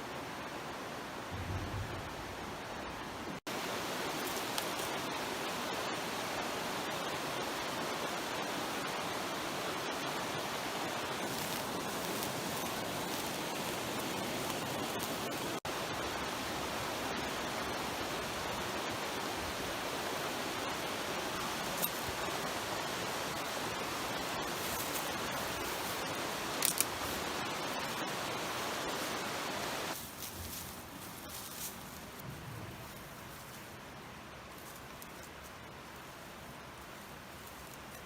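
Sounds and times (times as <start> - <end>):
creek water rushing: 0.0 - 38.0.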